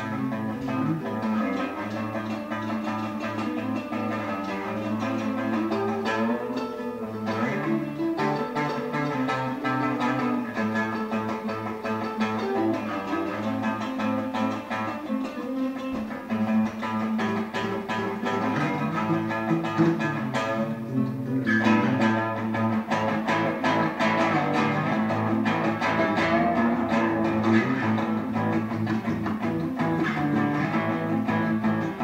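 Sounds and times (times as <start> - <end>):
acoustic guitar strumming: 0.0 - 32.0
electric guitars through amplifier: 0.0 - 32.0.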